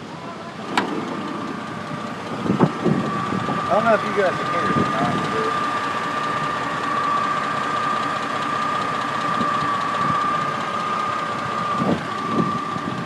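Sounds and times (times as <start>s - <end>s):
car engine idling: 0.0s - 13.0s
steady high whine: 0.0s - 13.0s
fast engine ticking: 0.1s - 13.0s.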